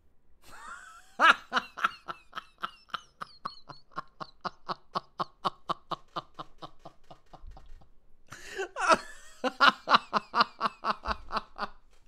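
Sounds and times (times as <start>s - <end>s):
man laughing hard: 0.5s - 11.8s.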